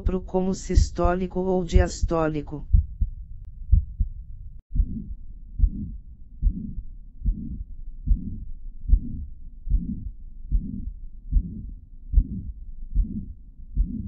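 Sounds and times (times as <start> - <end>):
heartbeat with whooshing murmur: 0.0 - 14.0.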